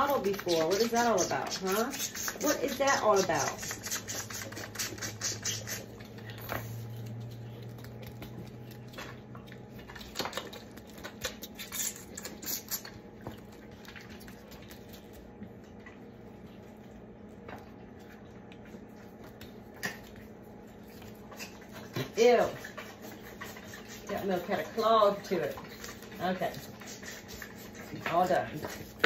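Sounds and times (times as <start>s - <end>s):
lambs sucking bottle teats: 0.0s - 17.0s, 18.1s - 29.0s
low steady hum: 0.0s - 29.0s.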